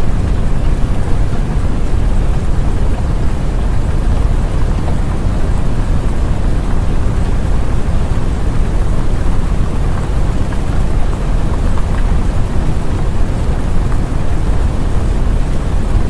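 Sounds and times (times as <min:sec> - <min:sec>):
dense rumbling noise: 0:00.0 - 0:16.0.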